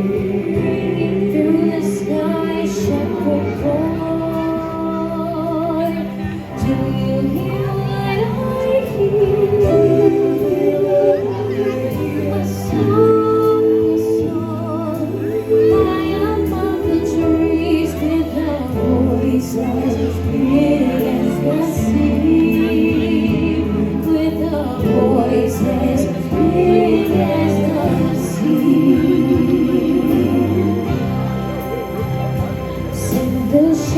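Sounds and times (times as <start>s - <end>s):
low instrumental backing: 0.0s - 33.9s
person singing with vibrato: 0.0s - 33.9s.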